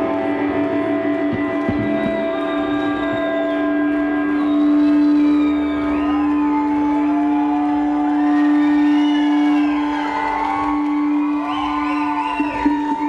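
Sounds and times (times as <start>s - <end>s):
music of long held tones: 0.0s - 13.0s.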